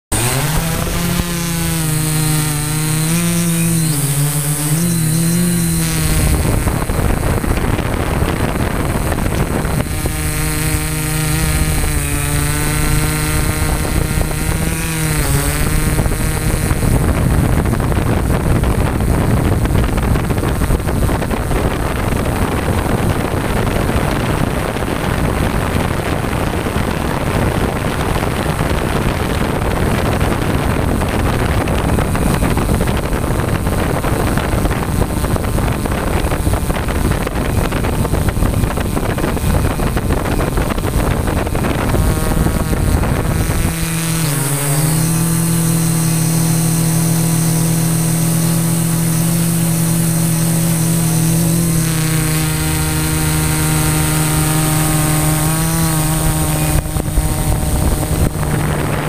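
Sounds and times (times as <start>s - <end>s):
drone motors and propellers humming: 0.1s - 59.0s
wind rushing over microphone: 0.1s - 59.0s.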